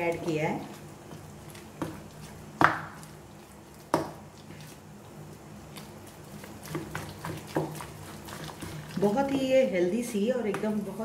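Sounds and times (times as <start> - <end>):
spoon stirring thick batter: 0.0 - 11.0.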